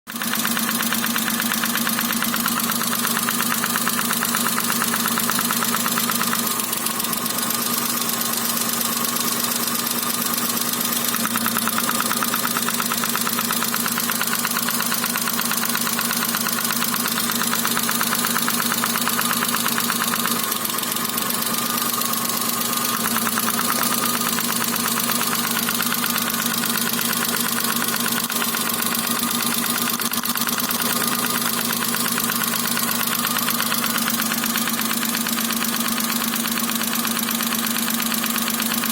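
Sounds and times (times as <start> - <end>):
car engine idling with rhythmic knock: 0.1 - 38.9.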